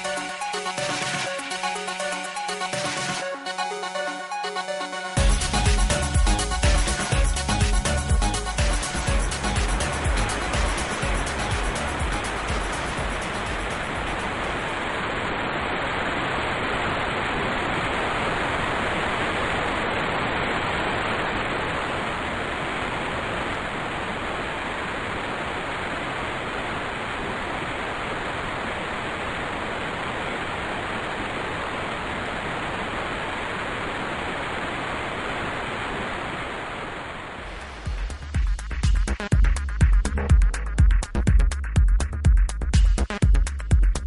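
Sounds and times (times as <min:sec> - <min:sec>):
white noise static hiss: 0:00.0 - 0:44.0.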